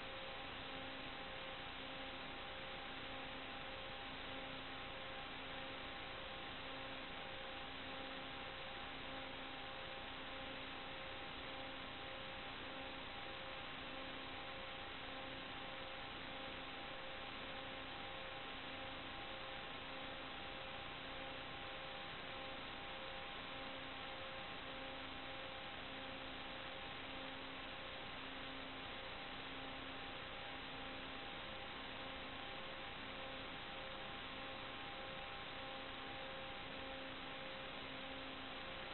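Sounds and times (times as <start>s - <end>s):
steady hum tones: 0.0s - 38.9s.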